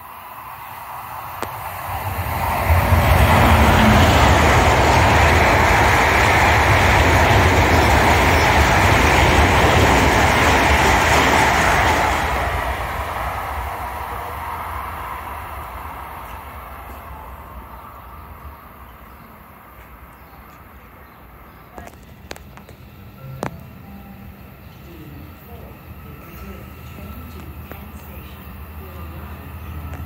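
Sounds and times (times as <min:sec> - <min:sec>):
train wheels rushing on rails: 0:00.0 - 0:30.0.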